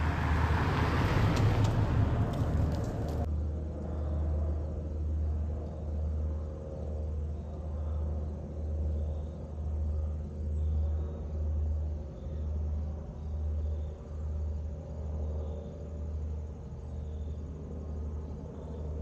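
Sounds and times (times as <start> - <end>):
distant jet engine rumble: 0.0 - 19.0.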